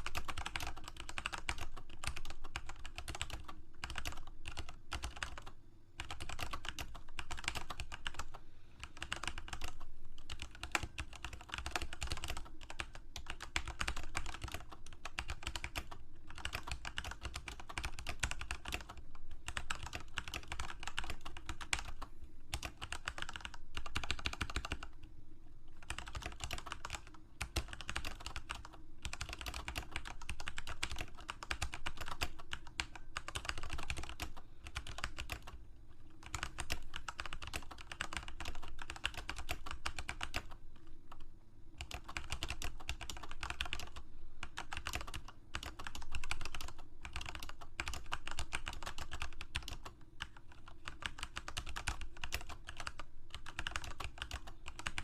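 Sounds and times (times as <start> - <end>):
computer keyboard typing: 0.0 - 25.0, 25.7 - 55.0.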